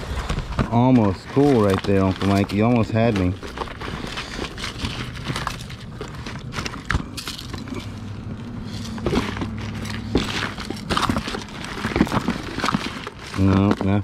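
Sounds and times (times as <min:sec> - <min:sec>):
jewellery clinking and rattling: 0:01.2 - 0:14.0.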